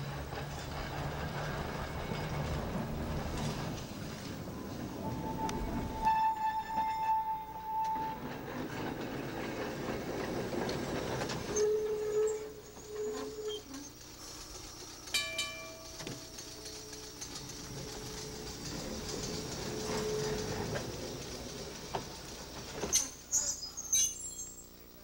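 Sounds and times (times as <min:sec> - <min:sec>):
lower wheel squeal: 0:00.0 - 0:15.0, 0:15.8 - 0:24.7
streetcar rumbling past: 0:00.0 - 0:23.3
high wheel squeal: 0:00.4 - 0:14.8, 0:15.8 - 0:24.6.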